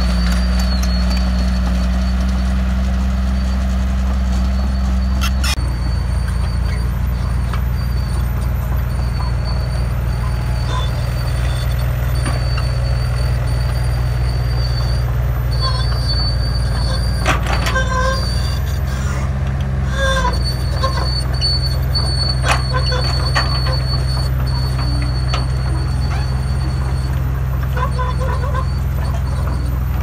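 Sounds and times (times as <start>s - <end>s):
excavator bucket knocks and squeaks: 0.0s - 2.8s, 4.0s - 30.0s
excavator diesel engine running: 0.0s - 30.0s.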